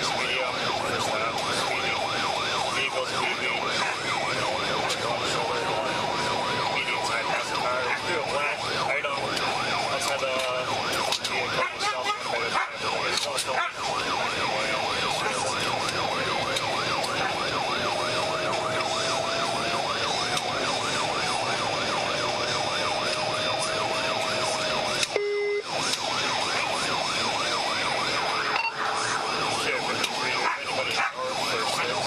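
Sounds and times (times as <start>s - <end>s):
police siren yelping: 0.0s - 32.0s
road and engine noise: 0.0s - 32.0s.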